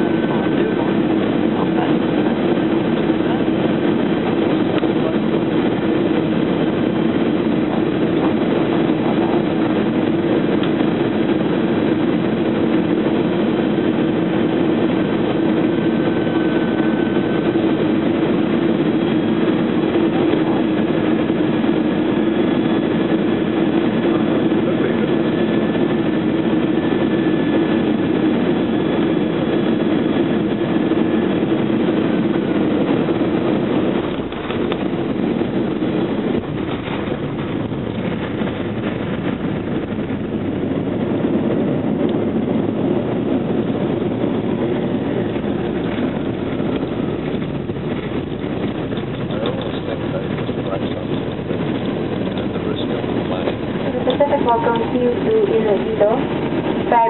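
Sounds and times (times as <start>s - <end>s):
faint high engine whines: 0.0s - 57.0s
jet engines and airflow rushing: 0.0s - 57.0s.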